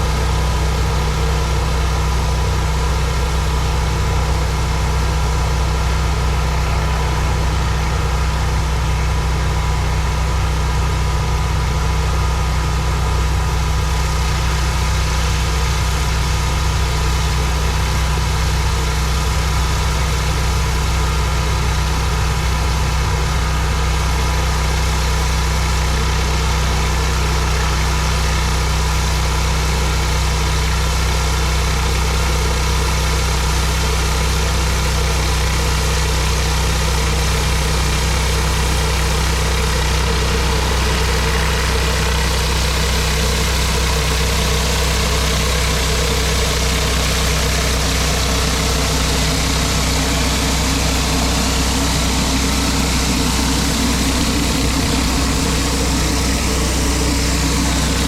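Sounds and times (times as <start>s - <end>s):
pressure washer engine running: 0.0s - 58.0s.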